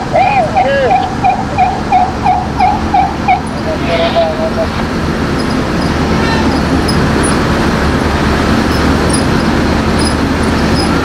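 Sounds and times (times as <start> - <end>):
diesel engine droning: 0.0 - 11.0
road noise: 0.0 - 11.0.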